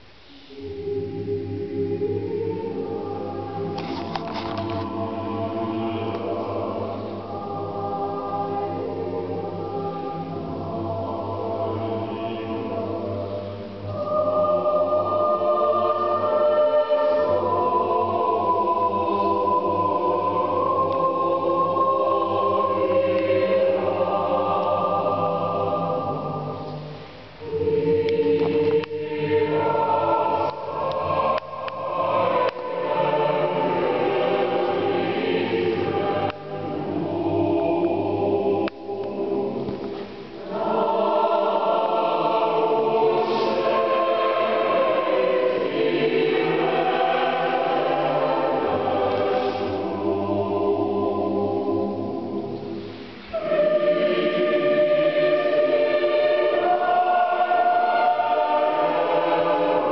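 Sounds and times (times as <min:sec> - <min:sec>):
mixed choir singing: 0:00.5 - 0:59.9.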